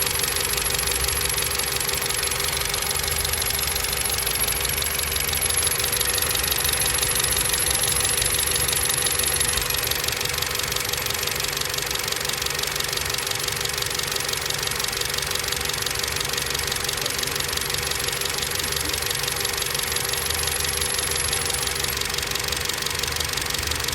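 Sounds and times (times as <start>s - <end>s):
car engine running: 0.0s - 23.9s.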